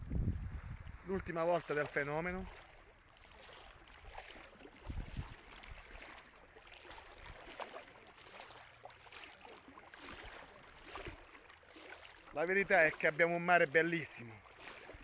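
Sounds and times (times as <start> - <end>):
small ripples lapping at shore: 0.0 - 15.0.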